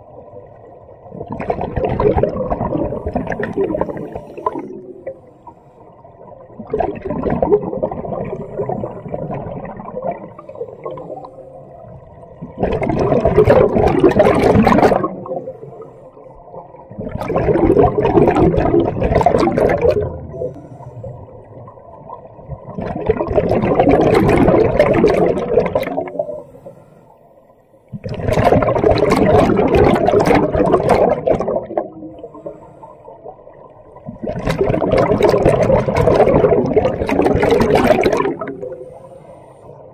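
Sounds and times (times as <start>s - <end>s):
diver exhaling air bubbles: 1.2s - 5.6s, 6.5s - 11.4s, 12.4s - 15.9s, 16.9s - 21.7s, 22.6s - 26.7s, 27.9s - 32.7s, 34.0s - 39.6s.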